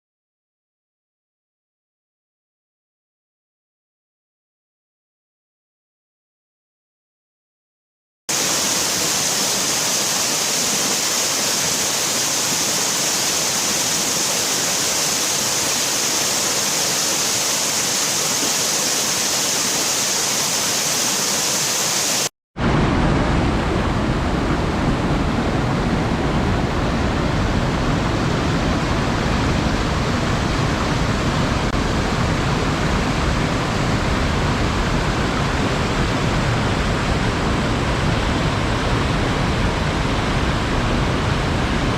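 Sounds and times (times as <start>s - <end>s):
waterfall rushing: 8.3s - 41.9s.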